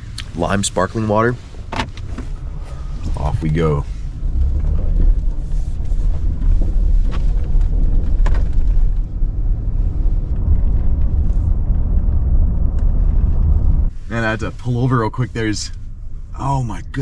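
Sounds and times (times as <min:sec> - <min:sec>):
truck cab rumble while driving: 0:00.0 - 0:17.0.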